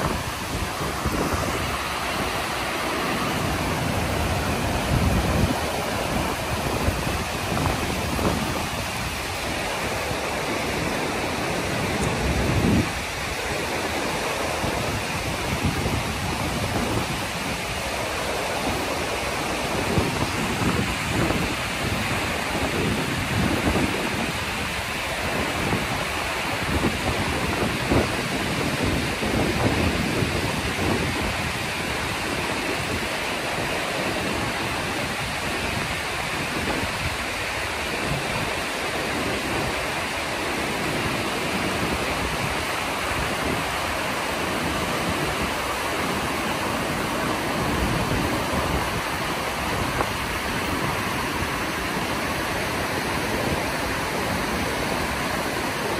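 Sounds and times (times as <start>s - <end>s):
whitewater rapids rushing: 0.0s - 55.9s
wind buffeting microphone: 0.0s - 55.9s.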